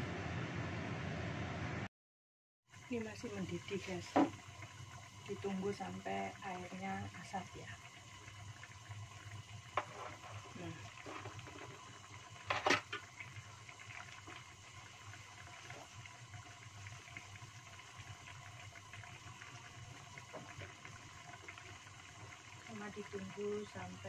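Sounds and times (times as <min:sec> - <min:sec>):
stew simmering with crackles: 0:02.7 - 0:24.0
pop and sizzle: 0:02.9 - 0:24.0.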